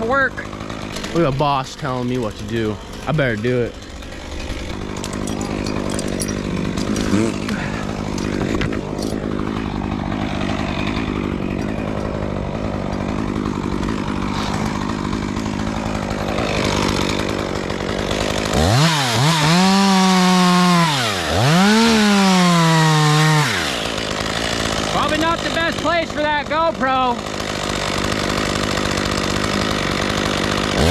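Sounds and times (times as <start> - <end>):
chainsaw revving: 0.0 - 30.9
chainsaw running and cutting: 0.0 - 30.9.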